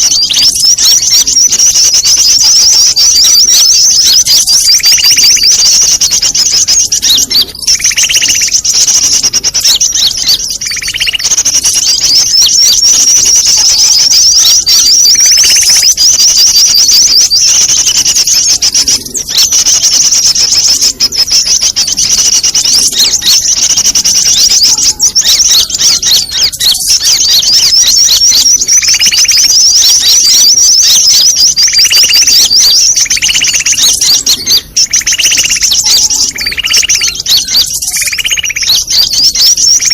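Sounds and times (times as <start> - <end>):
high rapid bird trilling: 0.0 - 39.9.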